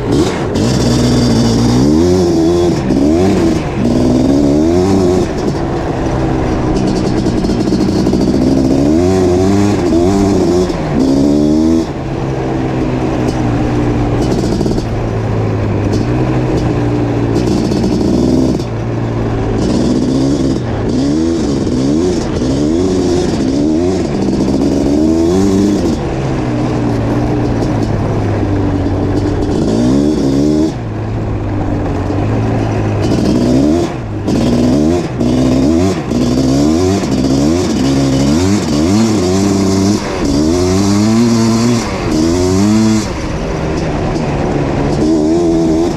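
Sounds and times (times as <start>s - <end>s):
two-stroke engine revving: 0.0s - 45.9s.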